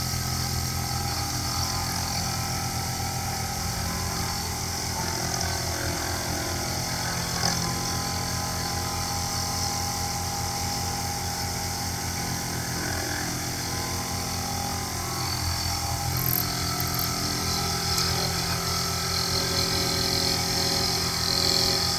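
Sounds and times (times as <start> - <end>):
milling machine cutting metal: 0.0 - 21.9.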